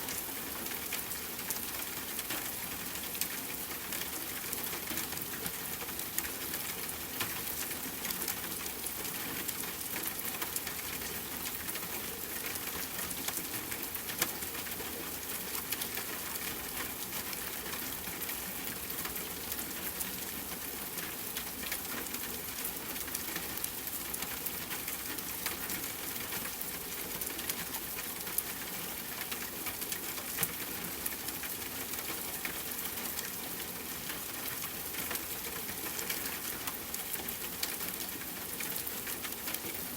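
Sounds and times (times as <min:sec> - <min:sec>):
raindrops ticking on a surface: 0:00.0 - 0:39.9.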